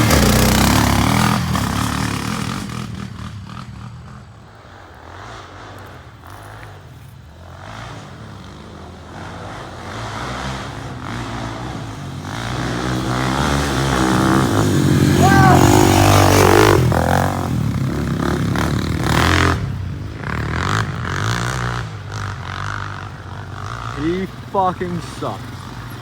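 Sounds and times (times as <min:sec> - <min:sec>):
off-road engines: 0:00.0 - 0:26.0.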